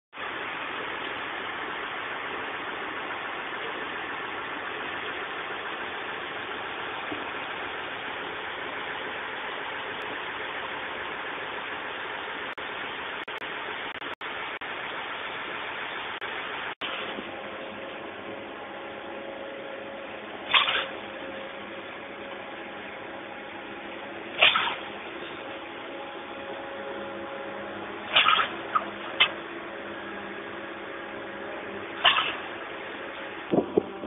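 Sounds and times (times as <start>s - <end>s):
concrete pump engine running: 0.2s - 34.0s.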